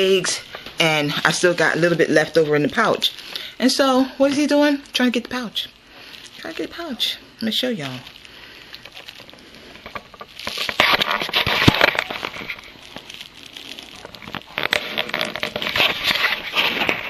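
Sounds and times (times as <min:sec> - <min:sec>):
plastic pouch crinkling: 0:00.0 - 0:17.0.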